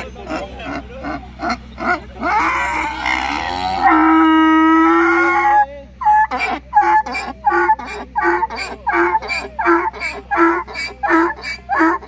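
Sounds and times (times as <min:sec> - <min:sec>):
donkey braying: 0:00.0 - 0:12.0.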